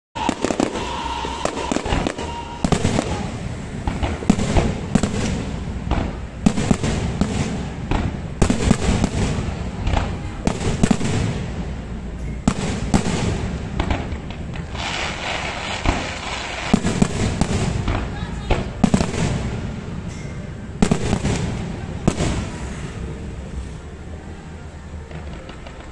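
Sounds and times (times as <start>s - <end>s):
firework shells bursting: 0.2s - 11.3s, 12.2s - 22.8s
background rumble: 0.2s - 25.9s
fireworks crackling: 0.2s - 25.9s.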